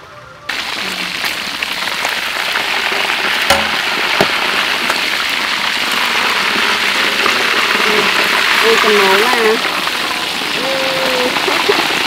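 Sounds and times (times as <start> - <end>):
oil sizzling in wok: 0.5 - 12.0.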